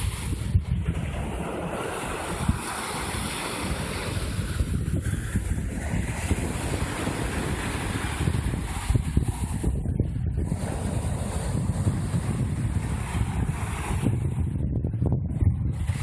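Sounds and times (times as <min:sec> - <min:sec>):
small waves washing on beach: 0:00.0 - 0:14.7, 0:15.6 - 0:16.0
wind buffeting microphone: 0:00.0 - 0:16.0.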